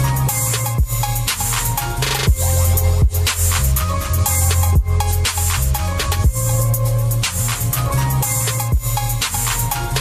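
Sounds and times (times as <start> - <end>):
electronic hip-hop music: 0.0 - 10.0.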